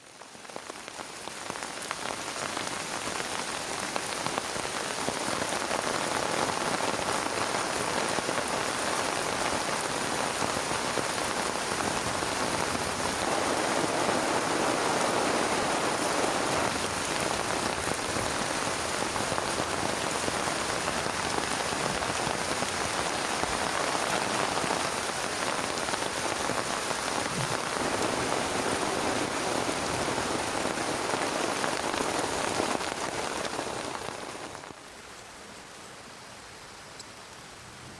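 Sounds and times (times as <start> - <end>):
heavy rain falling: 0.0 - 35.1.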